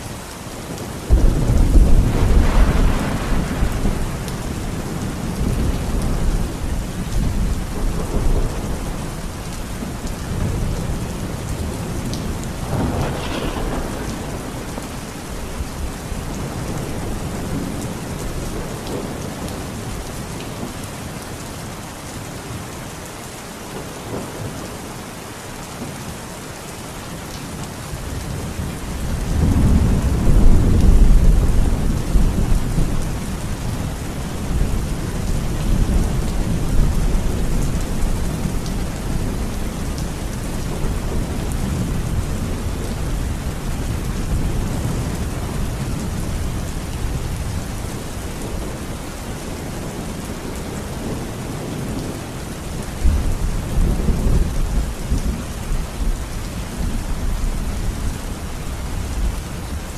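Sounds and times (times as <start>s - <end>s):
steady rain falling: 0.0s - 59.9s
low rolling thunder: 1.1s - 19.8s, 28.2s - 48.9s, 49.5s - 59.4s.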